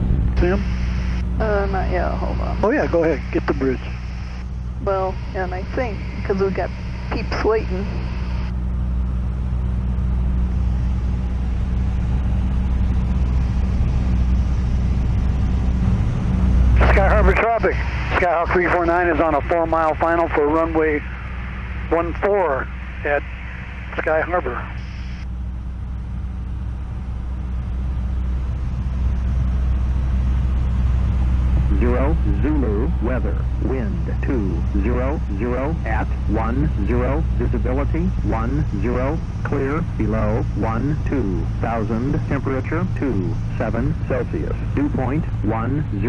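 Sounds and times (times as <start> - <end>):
airplane engine and propeller: 0.0 - 46.0.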